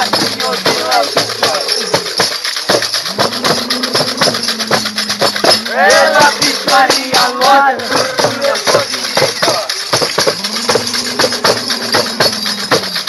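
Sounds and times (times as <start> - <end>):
jingling bells: 0.0 - 13.0
long held call: 0.0 - 13.0
people shouting: 0.0 - 13.0
rhythmic percussion: 0.0 - 13.0.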